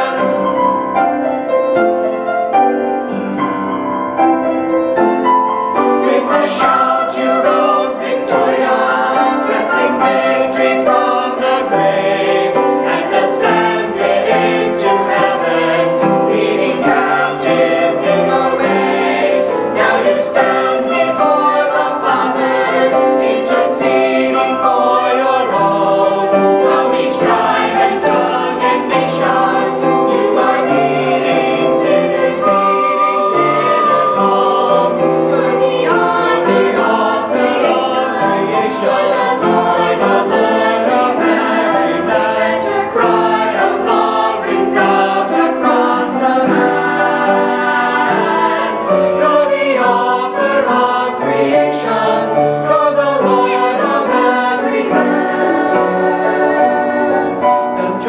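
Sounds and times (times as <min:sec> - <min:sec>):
mixed choir singing a hymn: 0:00.0 - 0:03.7, 0:04.5 - 0:58.0.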